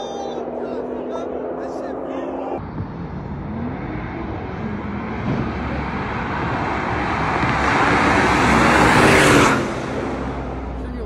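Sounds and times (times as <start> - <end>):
car engines and exhaust at speed: 0.0 - 11.0.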